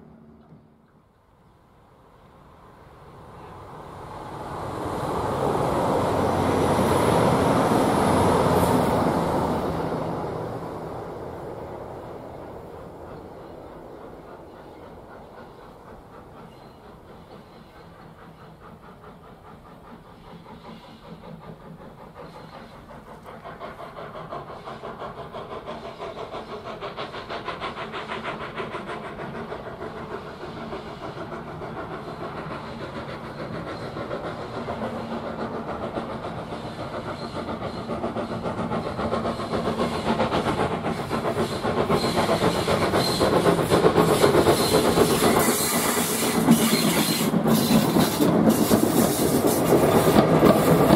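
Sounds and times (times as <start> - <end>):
steam locomotive chugging: 2.0 - 50.9.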